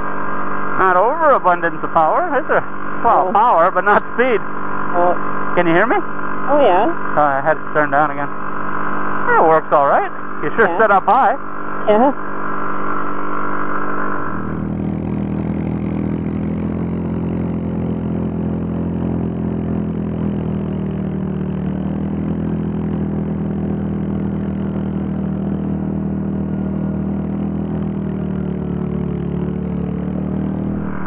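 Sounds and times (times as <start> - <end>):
quad bike engine droning: 0.0 - 31.0.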